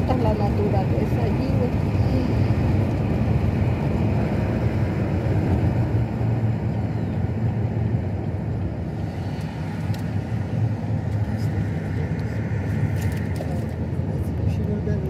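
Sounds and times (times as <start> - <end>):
car road noise rumble: 0.0 - 15.0.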